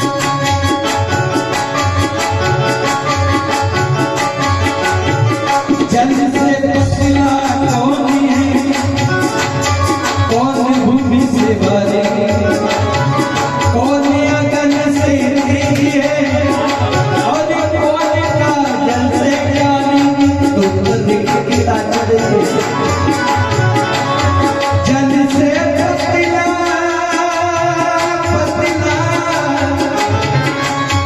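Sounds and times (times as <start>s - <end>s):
tabla drumming: 0.0s - 31.0s.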